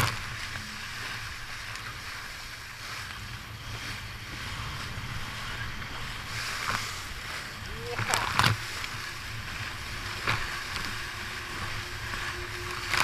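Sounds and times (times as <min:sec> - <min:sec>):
water rushing past hull: 0:00.0 - 0:13.0
wind buffeting microphone: 0:00.0 - 0:13.0.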